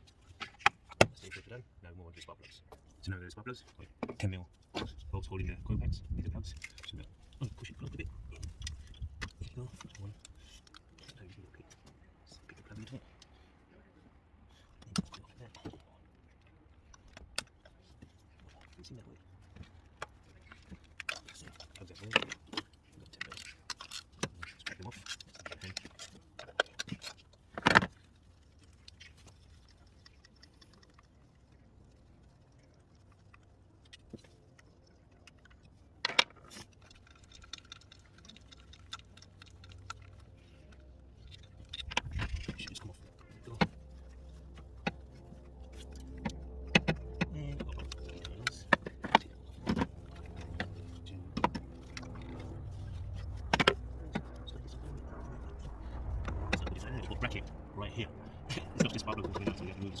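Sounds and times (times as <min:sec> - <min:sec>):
low steady hum: 0:00.0 - 1:00.0.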